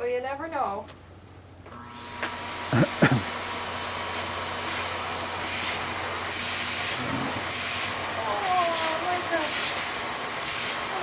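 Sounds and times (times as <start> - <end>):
vacuum cleaner running: 1.7 - 11.0.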